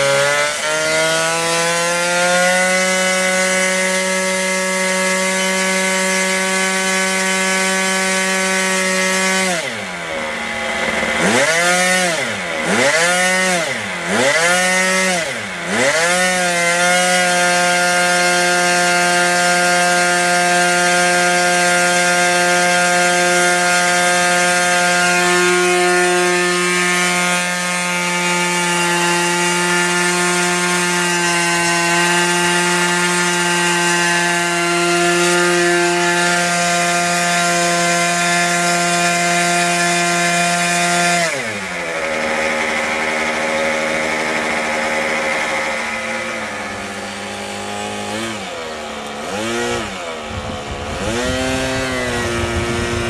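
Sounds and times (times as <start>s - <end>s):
model aircraft engine running: 0.0s - 53.0s.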